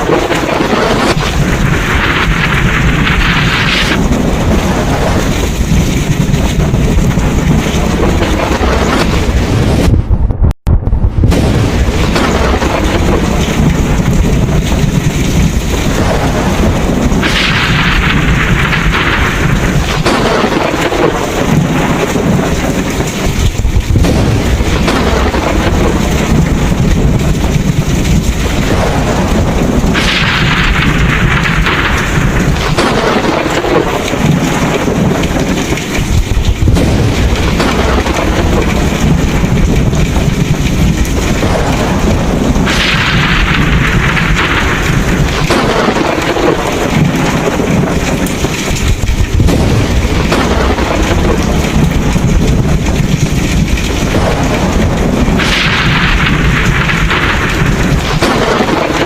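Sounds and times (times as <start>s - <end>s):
heavy rain: 0.0s - 59.0s
low rumbling thunder: 0.0s - 59.0s.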